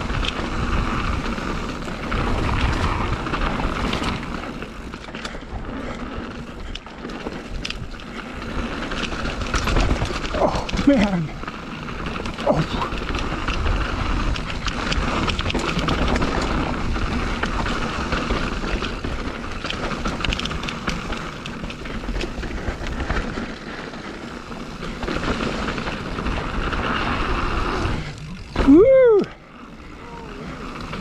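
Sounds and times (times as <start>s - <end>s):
bike clattering and rattling: 0.0s - 31.0s
tyres rolling over dirt: 0.0s - 31.0s.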